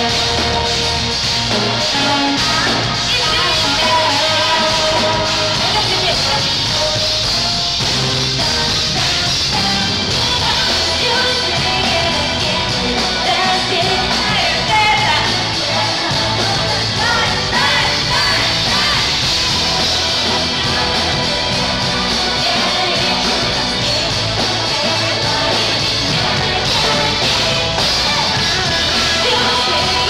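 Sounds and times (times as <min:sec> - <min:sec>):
live pop-rock band playing: 0:00.0 - 0:30.0
woman singing: 0:01.8 - 0:07.0, 0:08.4 - 0:30.0.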